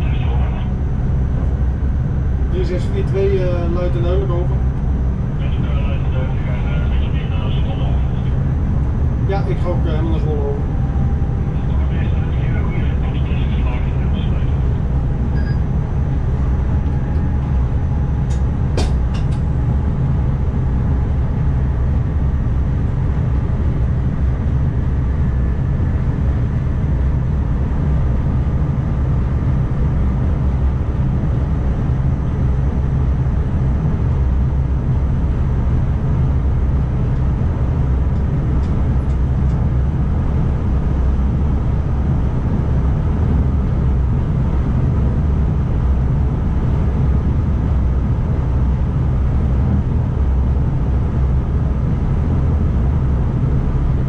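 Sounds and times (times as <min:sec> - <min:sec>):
train cab rumble: 0:00.0 - 0:54.0.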